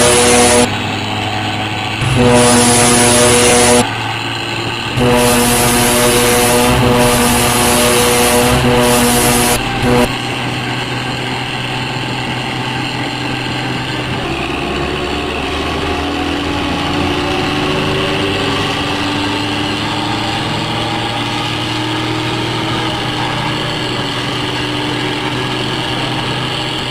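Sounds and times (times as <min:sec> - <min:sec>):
engine idling: 0:00.0 - 0:26.9.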